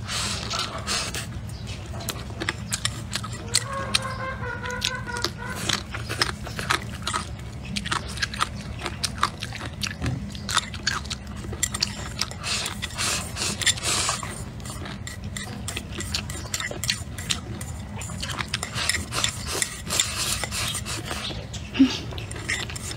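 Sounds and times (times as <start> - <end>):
crunching and chewing food: 0.0 - 22.9.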